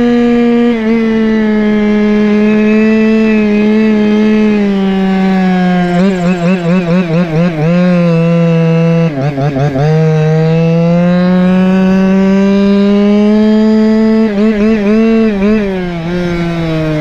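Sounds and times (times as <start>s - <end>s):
small two-stroke engine buzzing: 0.0s - 17.0s.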